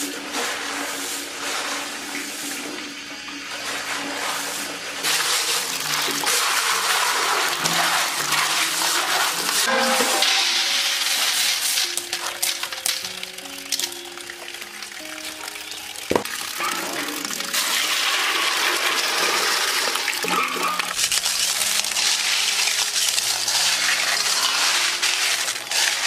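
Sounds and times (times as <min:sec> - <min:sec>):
background music: 0:03.1 - 0:26.0.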